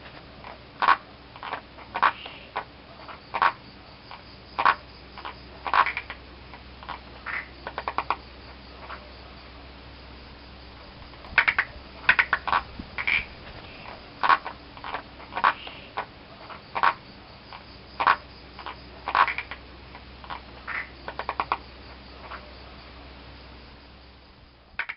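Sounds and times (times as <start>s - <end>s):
frogs croaking: 0.0s - 24.9s.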